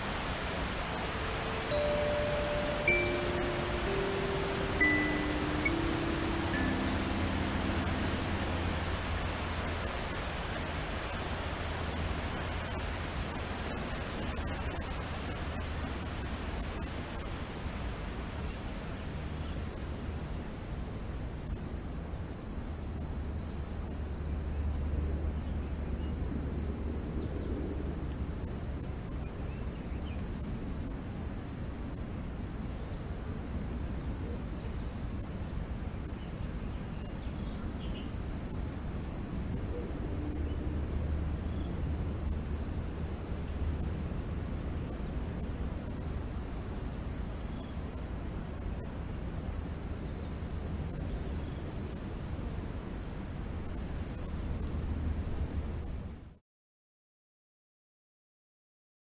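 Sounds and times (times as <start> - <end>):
low continuous rumble: 0.0 - 56.1
high insect trill: 0.0 - 56.2.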